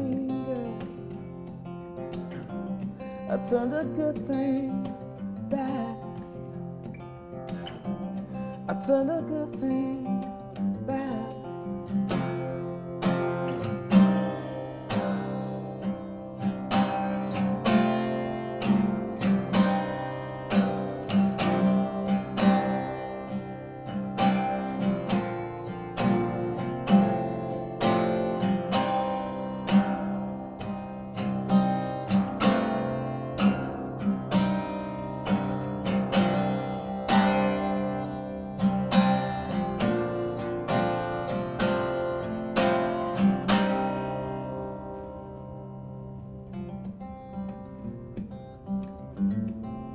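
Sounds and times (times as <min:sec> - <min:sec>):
acoustic guitar chords: 0:00.0 - 0:49.9.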